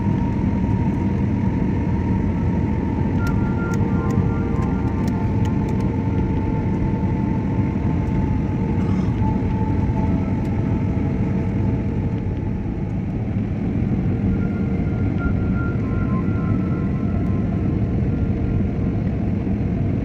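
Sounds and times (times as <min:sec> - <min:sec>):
faint steady tones: 0:00.0 - 0:20.0
low rumble of engines and air: 0:00.0 - 0:20.0.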